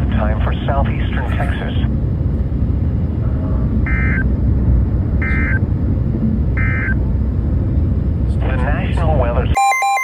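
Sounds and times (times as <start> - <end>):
low background rumble: 0.0 - 9.6.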